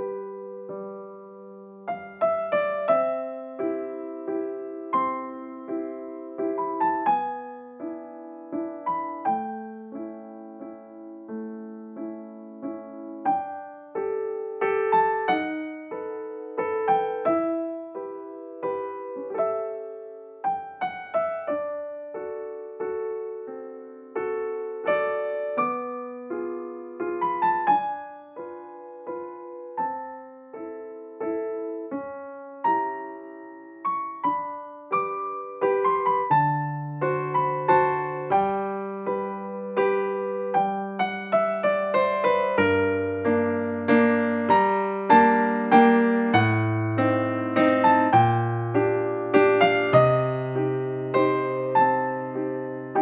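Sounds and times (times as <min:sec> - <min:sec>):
solo piano melody: 0:00.0 - 0:53.0.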